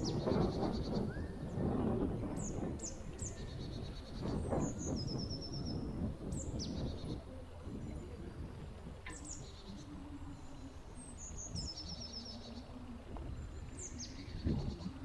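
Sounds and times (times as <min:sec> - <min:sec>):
songbirds calling: 0:00.0 - 0:15.0.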